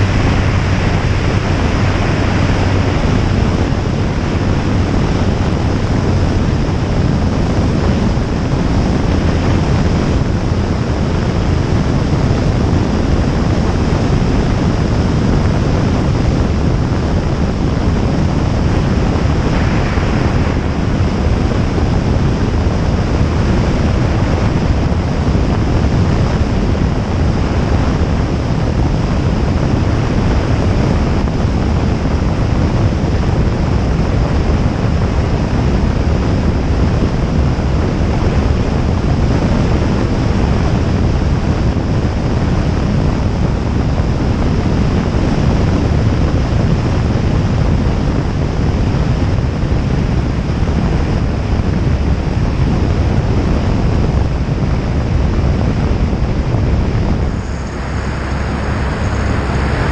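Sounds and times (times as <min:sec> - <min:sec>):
aircraft engine and propeller drone: 0:00.0 - 0:59.9
wind rushing over microphone: 0:00.0 - 0:59.9.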